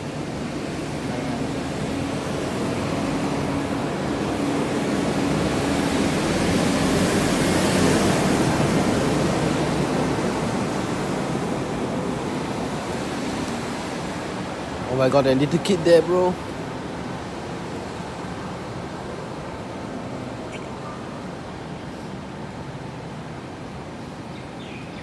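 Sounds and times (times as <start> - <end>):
bus driving past: 0.0 - 24.3.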